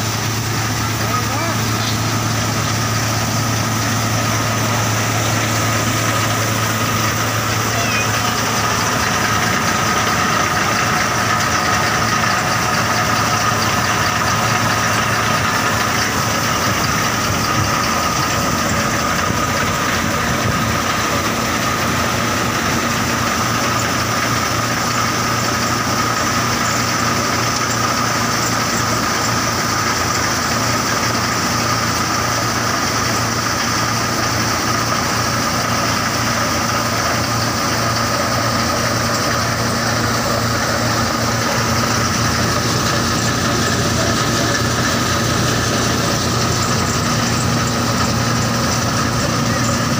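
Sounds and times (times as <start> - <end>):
steady high whine: 0.0 - 49.9
thresher machine running: 0.0 - 49.9.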